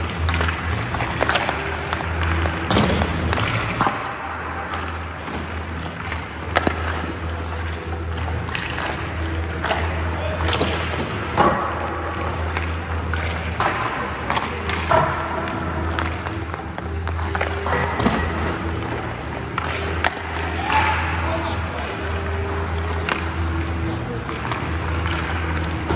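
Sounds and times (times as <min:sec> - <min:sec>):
hockey stick clacking on pucks: 0:00.0 - 0:21.0, 0:21.6 - 0:25.9
background music with low beat: 0:00.0 - 0:25.9
skates scraping on ice: 0:00.0 - 0:25.9.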